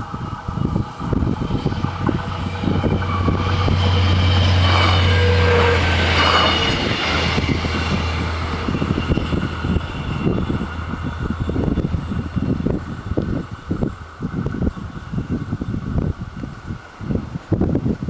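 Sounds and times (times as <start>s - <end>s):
rail noise: 0.0s - 18.0s
train engine drone: 0.0s - 18.0s.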